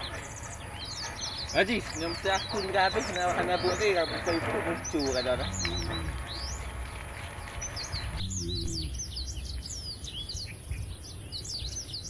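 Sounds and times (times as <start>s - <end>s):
brief low call: 0.0s - 9.7s
low outdoor rumble: 0.0s - 11.9s
small birds chirping: 0.0s - 12.0s.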